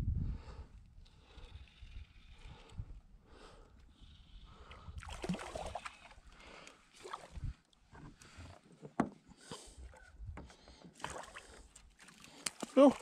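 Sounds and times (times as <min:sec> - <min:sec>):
fishing rod and line rustling: 0:00.8 - 0:13.0.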